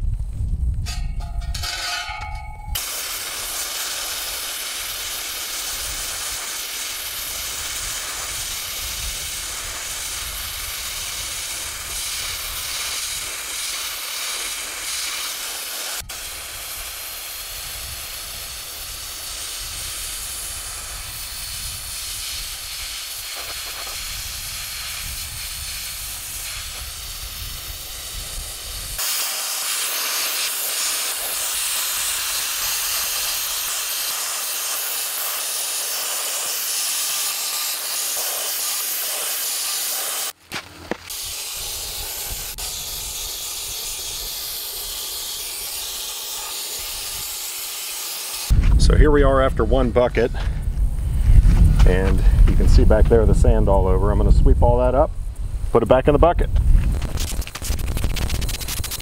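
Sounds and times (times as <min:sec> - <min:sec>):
sandblasting blowgun hissing: 0:02.8 - 0:40.4, 0:41.0 - 0:56.2, 0:56.8 - 0:59.0.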